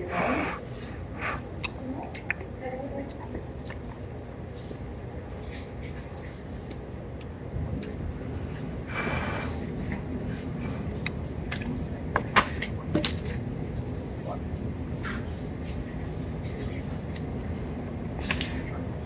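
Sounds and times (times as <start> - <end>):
restaurant room hum: 0.0 - 19.0.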